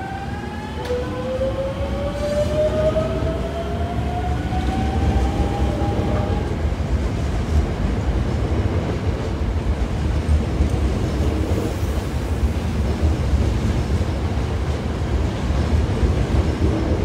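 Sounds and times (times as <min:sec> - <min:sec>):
rumble of train cars rolling: 0:00.0 - 0:17.0.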